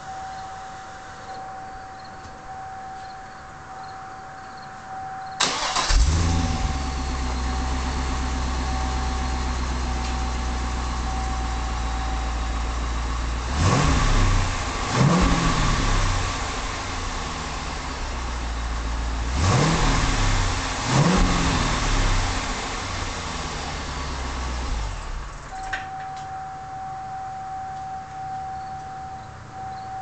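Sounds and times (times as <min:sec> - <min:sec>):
car engine starting and idling: 0:00.0 - 0:30.0
engine revs blipped: 0:04.8 - 0:30.0.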